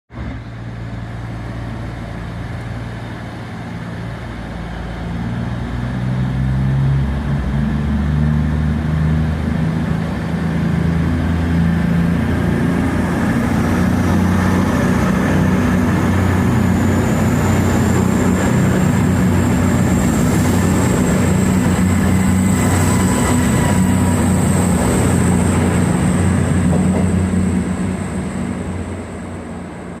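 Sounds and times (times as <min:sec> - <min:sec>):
train diesel engines revving: 0:00.2 - 0:30.0.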